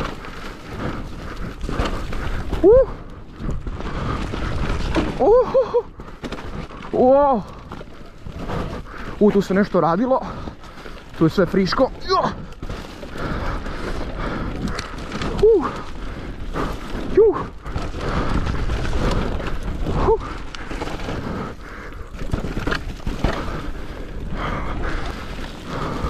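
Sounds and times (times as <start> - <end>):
bike knocks and rattles: 0.0 - 9.7, 13.8 - 26.0
wind and tyre noise: 0.0 - 26.0.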